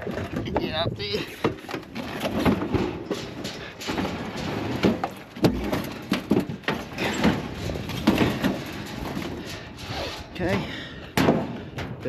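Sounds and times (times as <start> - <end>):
metal knocks clanks and scrapes: 0.0 - 12.0.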